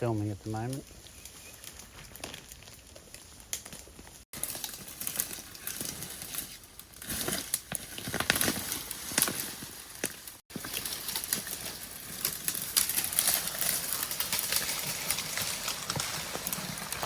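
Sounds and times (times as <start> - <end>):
dry leaves crackling and rustling: 0.2 - 17.0.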